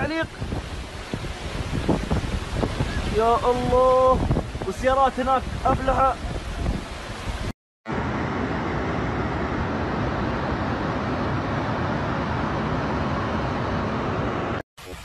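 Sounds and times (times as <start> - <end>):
floodwater rushing: 0.0 - 14.2.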